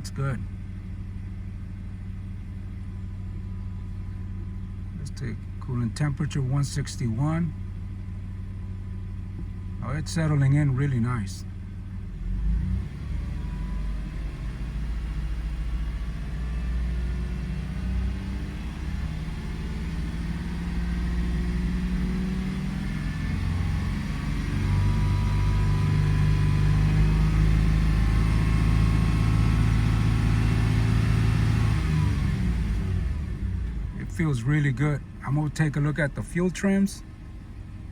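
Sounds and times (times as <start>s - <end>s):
car engine and road noise: 0.0s - 37.9s.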